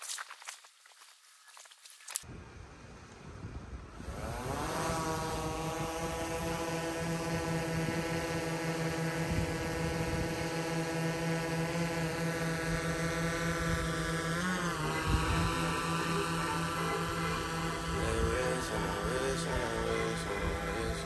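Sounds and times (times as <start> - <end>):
drone propellers buzzing: 2.3 - 21.0.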